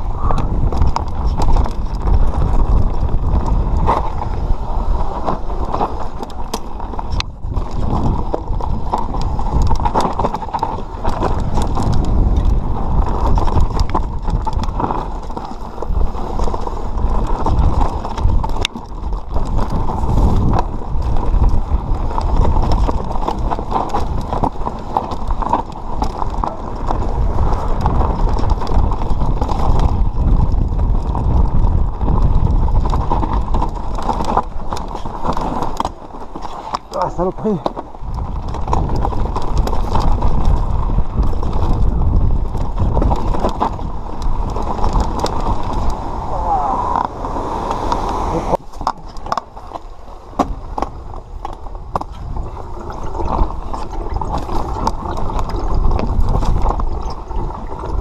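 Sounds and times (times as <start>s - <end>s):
bike rattling over bumps: 0.0s - 58.0s
tyres rumbling over dirt and stones: 0.0s - 58.0s
wind buffeting microphone: 0.0s - 58.0s.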